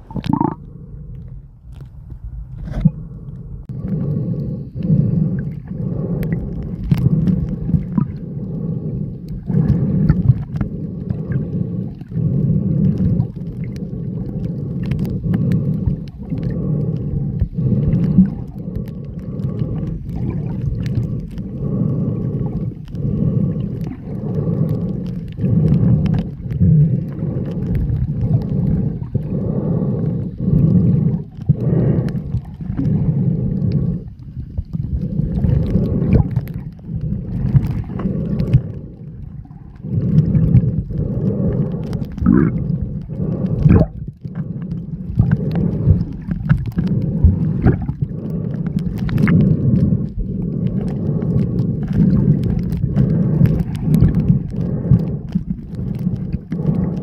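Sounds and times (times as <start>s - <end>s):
muffled underwater rumbling: 0.0s - 57.0s.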